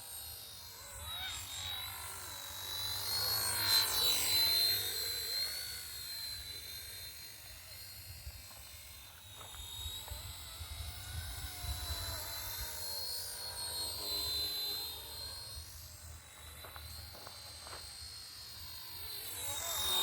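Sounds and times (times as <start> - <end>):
rc helicopter rotor whine: 0.0 - 20.0.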